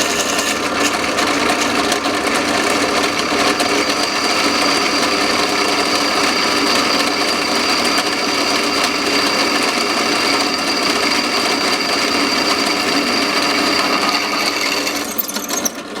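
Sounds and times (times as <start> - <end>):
high whine of drilling steel: 0.0 - 15.9
drill press hum: 0.0 - 16.0.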